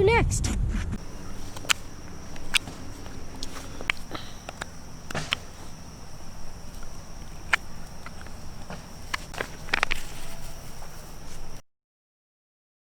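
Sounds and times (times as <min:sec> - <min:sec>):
high-pitched insect drone: 0:01.0 - 0:11.6
sharp clicks and knocks: 0:01.0 - 0:11.6.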